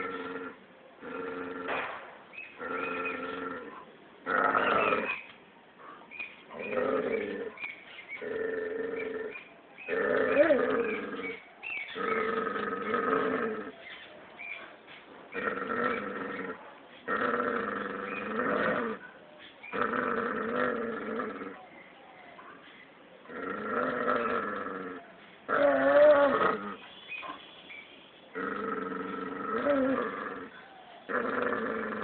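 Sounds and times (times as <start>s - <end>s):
dog growling: 0.0s - 1.9s, 2.5s - 5.2s, 6.5s - 13.9s, 15.3s - 21.7s, 23.2s - 26.8s, 28.4s - 32.0s.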